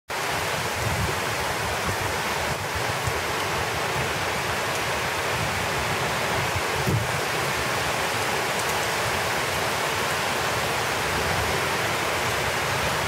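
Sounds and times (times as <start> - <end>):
heavy rain pouring: 0.1 - 13.0
wind buffeting microphone: 0.3 - 13.0.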